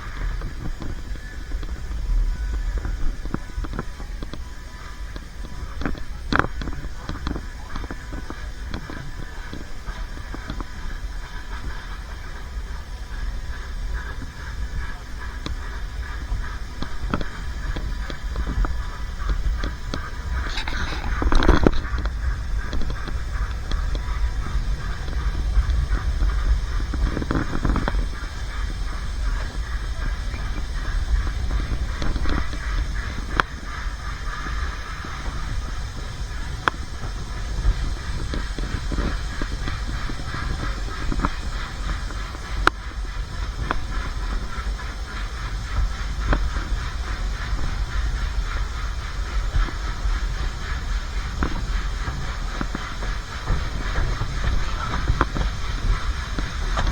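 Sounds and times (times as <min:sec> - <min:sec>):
steam train rumbling: 0:00.0 - 0:56.9.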